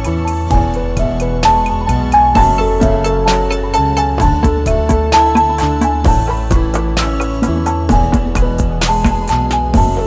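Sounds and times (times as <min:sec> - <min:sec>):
soft keyboard melody with beat: 0:00.0 - 0:10.0.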